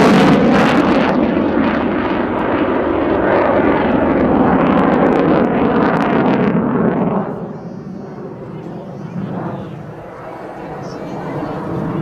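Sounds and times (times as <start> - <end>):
fighter jet flying past: 0.0 - 12.0.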